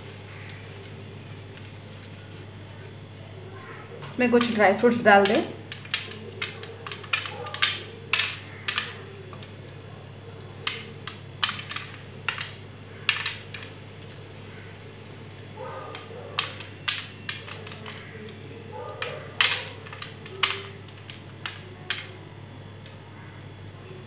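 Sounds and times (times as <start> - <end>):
almonds clicking on metal tray: 0.2 - 23.0.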